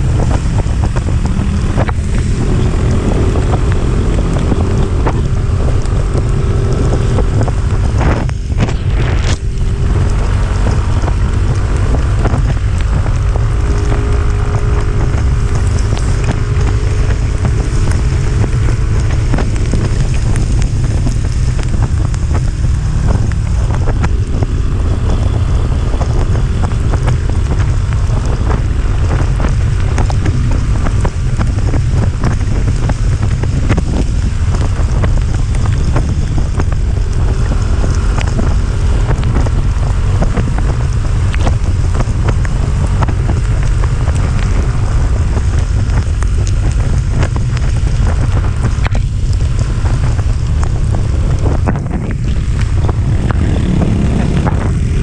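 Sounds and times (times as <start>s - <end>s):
vehicle running: 0.0s - 55.0s
wind buffeting microphone: 0.0s - 55.0s.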